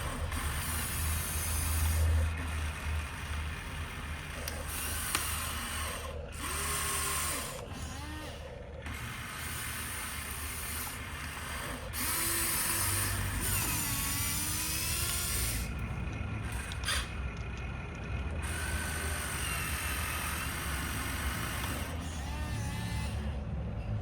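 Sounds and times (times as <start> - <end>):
toy electric motors whining: 0.0 - 24.0.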